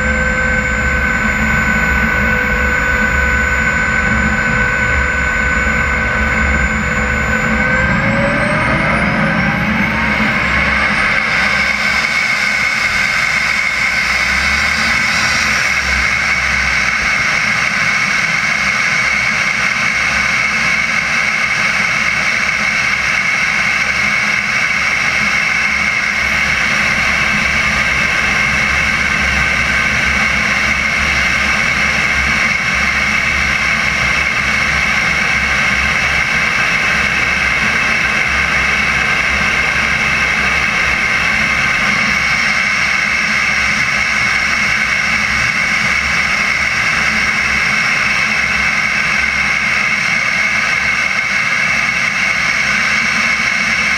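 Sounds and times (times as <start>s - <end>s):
model jet turbine whine: 0.0s - 53.9s.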